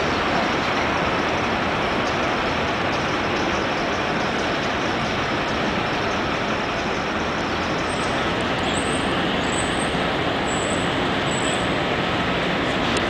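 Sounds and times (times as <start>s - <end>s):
city street traffic noise: 0.0s - 13.0s
light rail car running: 0.0s - 13.0s.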